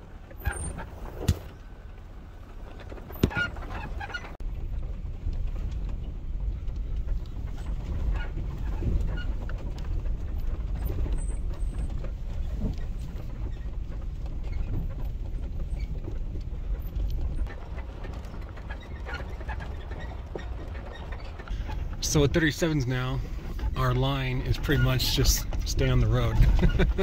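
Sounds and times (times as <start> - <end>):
suspension knocks and rattles: 0.0 - 27.0
truck cabin low rumble: 0.0 - 27.0.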